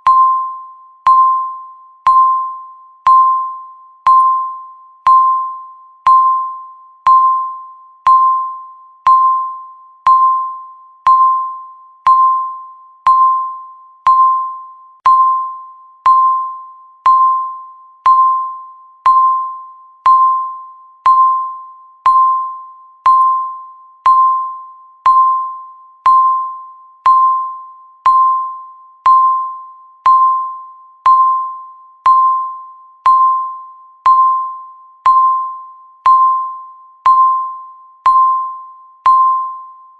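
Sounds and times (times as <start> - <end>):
timer beeps: 0.0 - 39.9.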